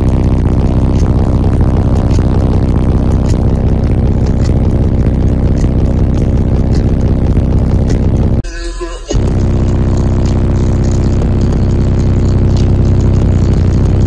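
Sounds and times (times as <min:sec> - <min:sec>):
subwoofer playing heavy bass: 0:00.0 - 0:14.0.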